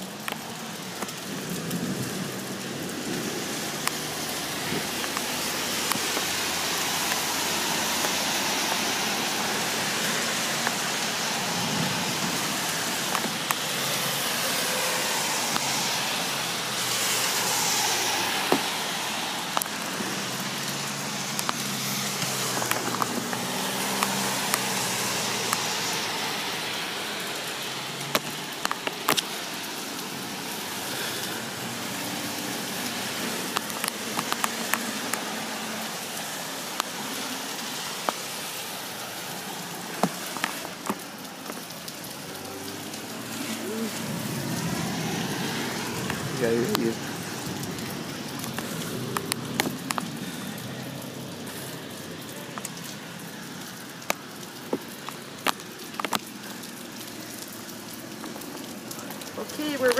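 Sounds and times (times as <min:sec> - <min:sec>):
heavy rain falling: 0:00.0 - 0:59.9
raindrops ticking near microphone: 0:00.0 - 0:59.9
traffic hum on wet road: 0:00.0 - 0:59.9.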